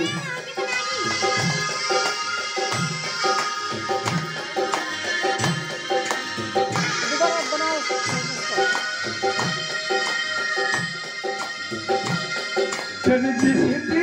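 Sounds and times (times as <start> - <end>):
electronic keyboard melody: 0.0 - 14.0
steady drum beat: 0.0 - 14.0.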